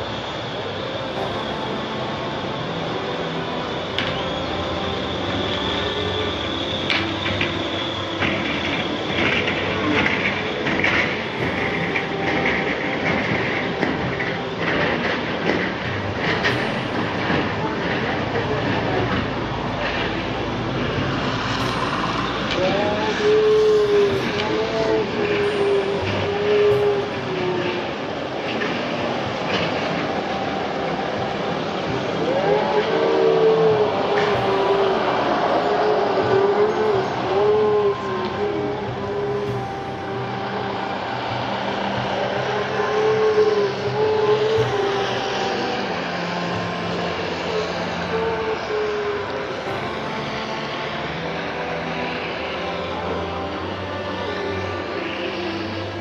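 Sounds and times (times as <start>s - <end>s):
long held notes: 0.0s - 56.0s
turbulent river rushing: 0.0s - 56.0s
wavering pitched tone: 0.0s - 56.0s.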